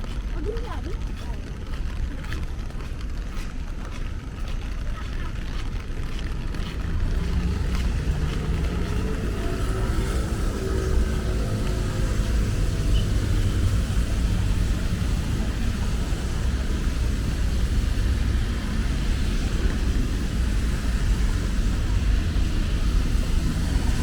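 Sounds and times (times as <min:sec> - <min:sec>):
city traffic rumble: 0:00.0 - 0:24.0
rain hissing on wet street: 0:00.0 - 0:24.0.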